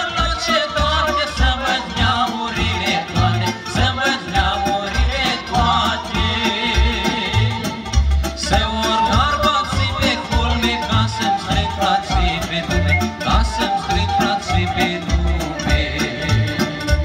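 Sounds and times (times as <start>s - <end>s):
folk band playing lively tune: 0.0s - 17.0s.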